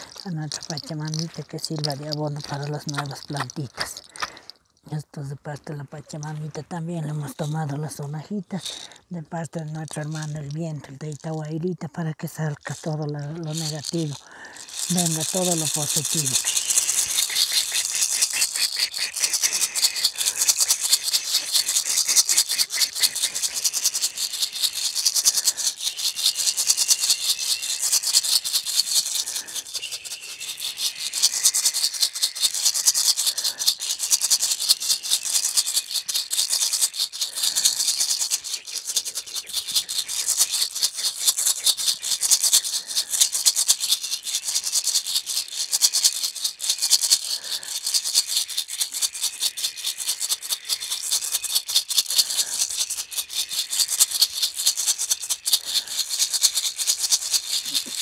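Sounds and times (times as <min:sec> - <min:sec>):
maracas rattling: 0:00.0 - 0:58.0.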